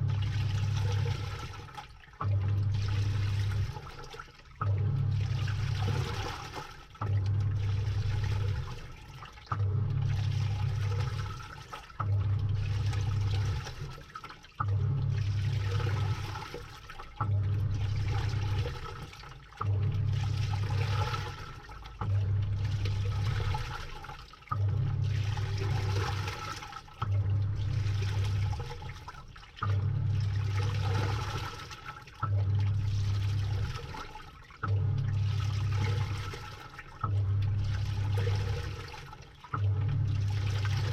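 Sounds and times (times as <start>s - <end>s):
washing machine motor humming: 0.0s - 40.9s
water sloshing through laundry: 0.0s - 40.9s.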